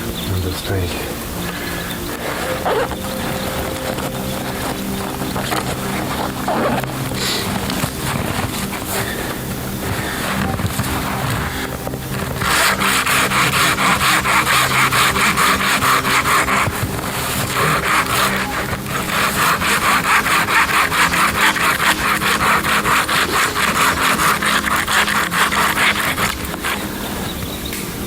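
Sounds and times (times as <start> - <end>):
hand saw cutting wood: 2.1 - 27.1.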